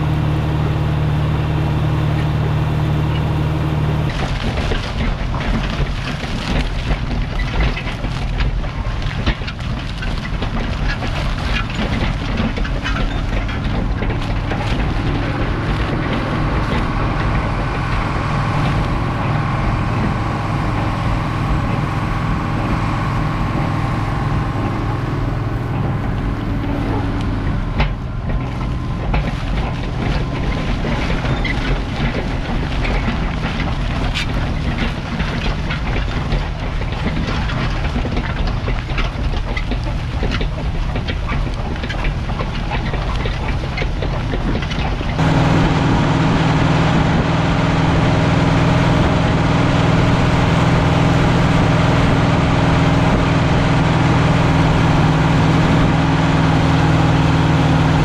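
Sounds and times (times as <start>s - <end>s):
diesel tractor engine droning: 0.0s - 58.0s
harrow blades crunching corn stalks: 2.2s - 58.0s.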